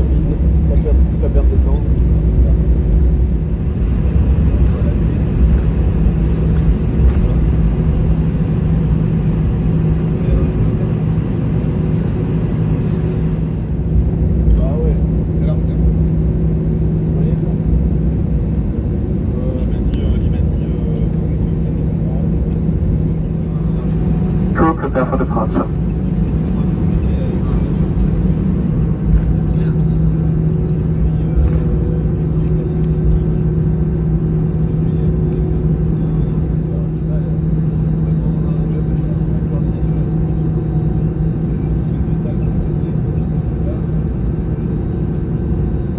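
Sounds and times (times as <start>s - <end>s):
airplane cabin rumble: 0.0s - 45.9s
constant hum: 0.0s - 45.9s.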